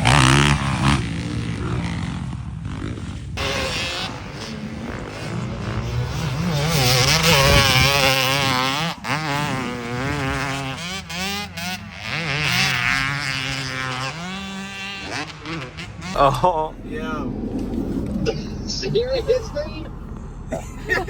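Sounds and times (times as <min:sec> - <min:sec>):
road noise: 0:00.0 - 0:21.0
vehicle engine running: 0:00.0 - 0:21.0.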